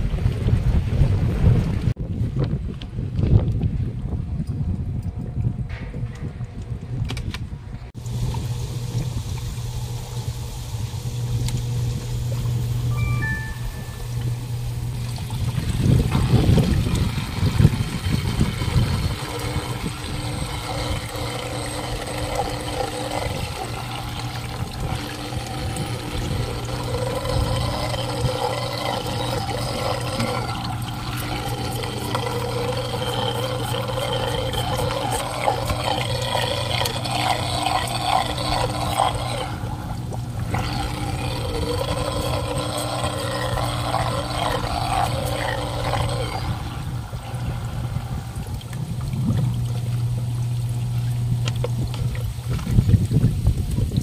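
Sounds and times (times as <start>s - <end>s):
low hum: 0.0s - 53.7s
water trickling and pouring: 8.0s - 54.0s.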